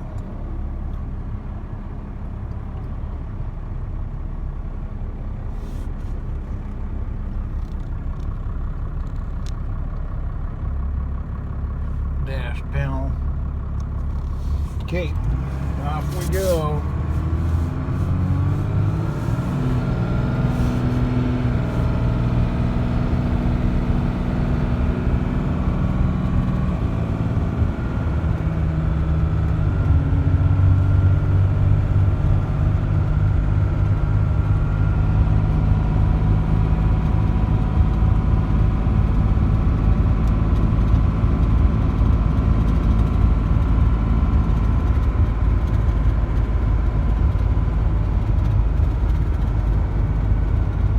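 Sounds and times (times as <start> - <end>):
diesel pickup engine accelerating: 0.0 - 50.9.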